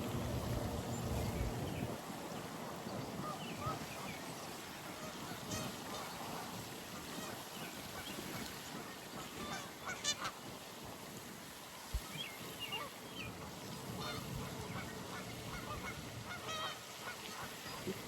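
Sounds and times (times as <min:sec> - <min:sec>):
pond birds calling: 0:00.0 - 0:10.4, 0:12.0 - 0:18.0.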